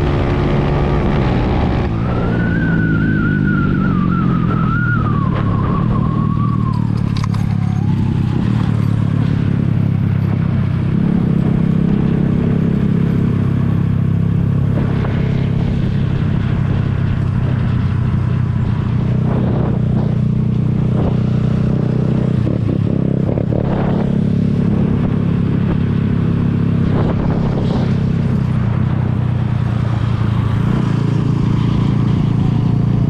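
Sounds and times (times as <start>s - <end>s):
motorcycle engine running: 3.4s - 33.0s.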